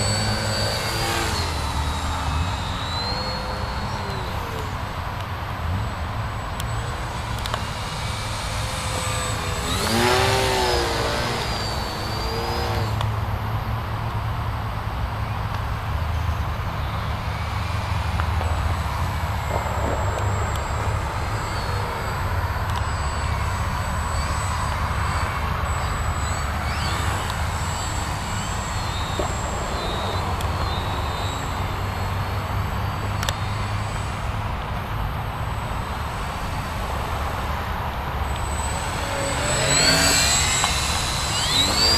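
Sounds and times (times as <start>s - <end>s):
model plane motor whining: 0.0s - 41.9s.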